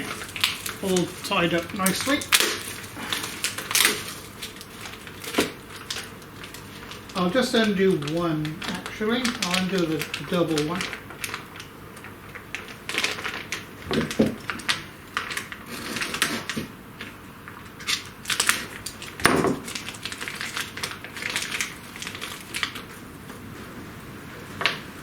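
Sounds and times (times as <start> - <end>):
packaging crinkling and clicking: 0.0 - 23.0.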